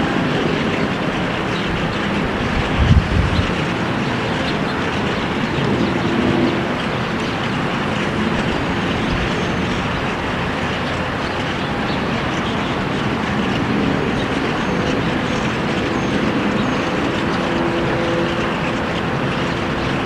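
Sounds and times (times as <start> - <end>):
loud rushing noise: 0.0 - 20.0.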